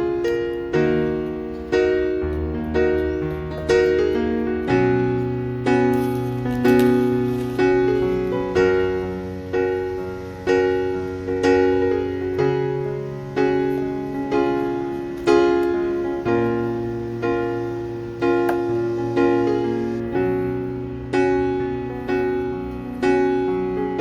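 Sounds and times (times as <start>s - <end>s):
slow gentle piano piece: 0.0s - 24.0s.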